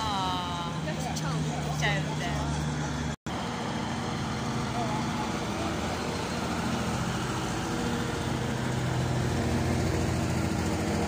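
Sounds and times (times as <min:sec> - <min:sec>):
army lorry engine running: 0:00.0 - 0:11.0
convoy engines: 0:00.0 - 0:11.0.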